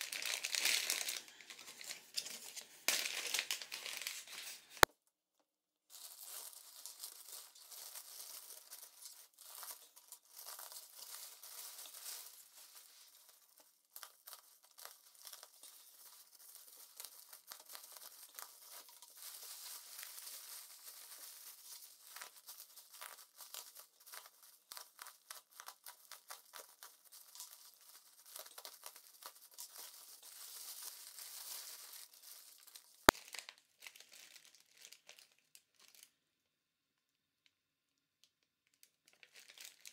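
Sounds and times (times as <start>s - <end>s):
plastic crinkling and rustling: 0.0s - 4.9s, 5.9s - 36.3s, 38.2s - 39.9s
plastic tearing: 0.0s - 4.9s, 5.9s - 36.2s, 38.8s - 39.9s.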